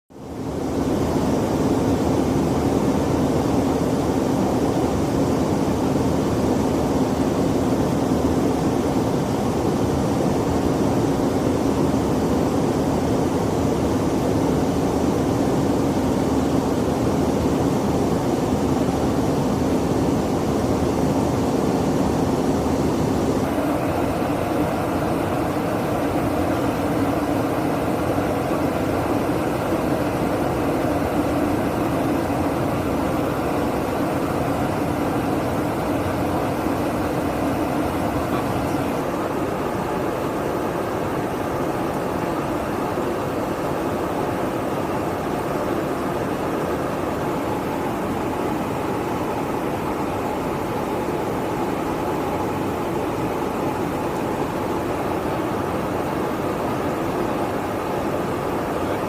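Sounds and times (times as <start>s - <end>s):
aircraft engine drone: 0.1s - 59.0s.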